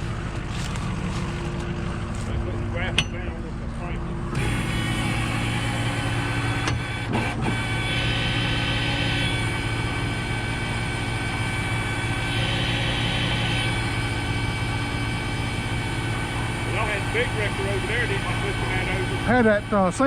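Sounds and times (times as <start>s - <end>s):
heavy engine running: 0.0s - 20.0s
high whine: 0.0s - 20.0s.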